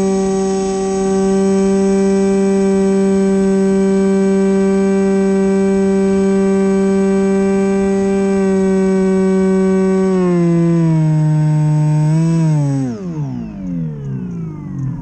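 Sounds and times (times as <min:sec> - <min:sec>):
motor and propeller whine: 0:00.0 - 0:15.0.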